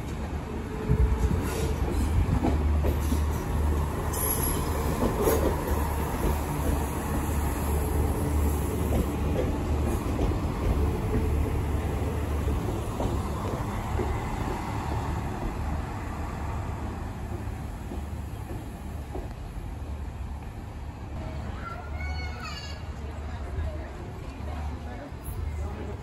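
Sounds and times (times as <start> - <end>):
train wheels rumbling on rails: 0.0 - 21.2.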